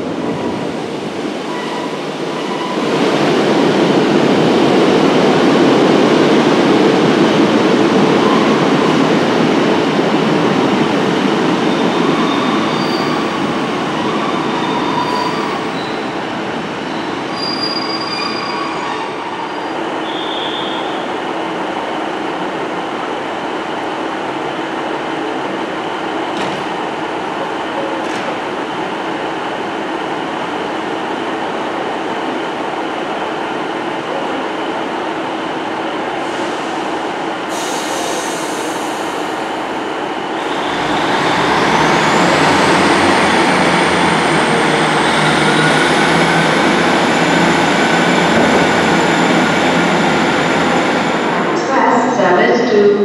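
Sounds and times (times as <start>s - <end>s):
train engine whine: 0.0s - 53.0s.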